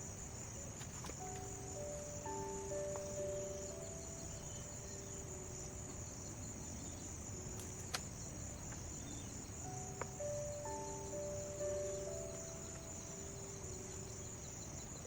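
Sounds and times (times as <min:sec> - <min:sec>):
faint soft music: 0:00.0 - 0:15.0
forest insects chirring: 0:00.0 - 0:15.0.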